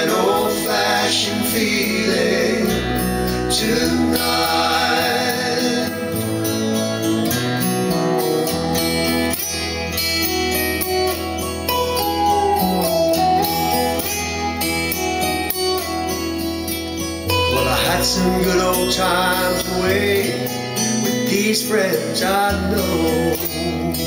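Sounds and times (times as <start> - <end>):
country song over speakers: 0.0 - 24.0.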